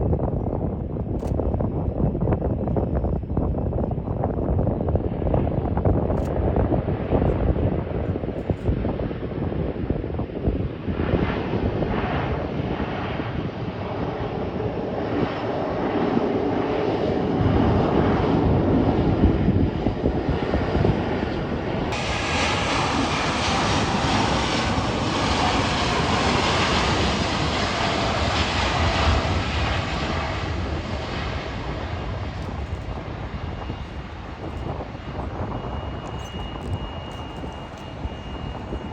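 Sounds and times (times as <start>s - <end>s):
jet airliner engines passing: 0.0s - 38.9s.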